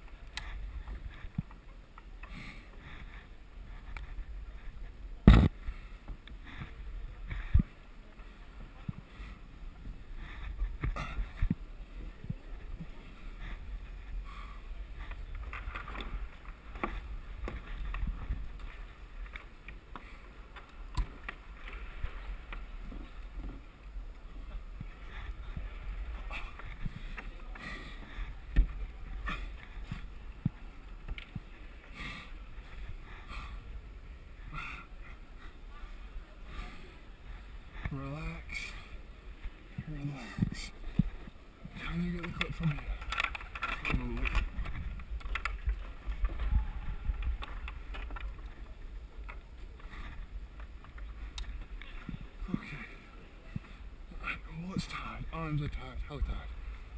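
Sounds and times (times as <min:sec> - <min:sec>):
camera rumble and rustling: 0:00.0 - 0:56.9.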